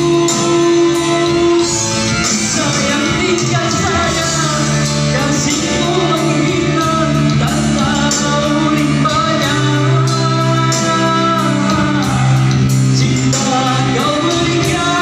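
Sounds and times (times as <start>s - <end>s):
band music: 0.0s - 15.0s
person singing: 0.0s - 15.0s.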